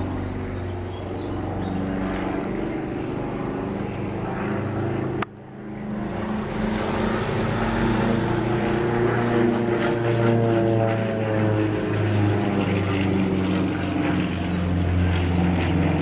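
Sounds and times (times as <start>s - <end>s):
propeller aircraft engine: 0.0s - 16.0s.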